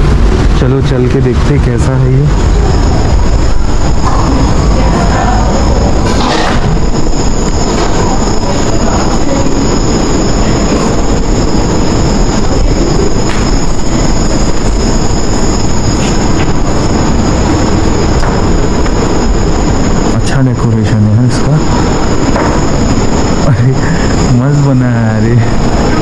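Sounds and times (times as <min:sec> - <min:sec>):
constant rumbling background: 0:00.0 - 0:26.0.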